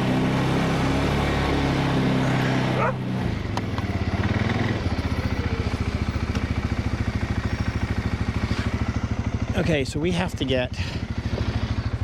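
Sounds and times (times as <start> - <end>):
engine idling: 1.1 - 12.0.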